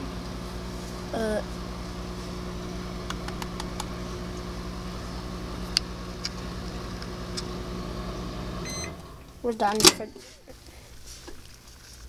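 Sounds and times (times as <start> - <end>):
microwave oven humming: 0.0 - 10.4.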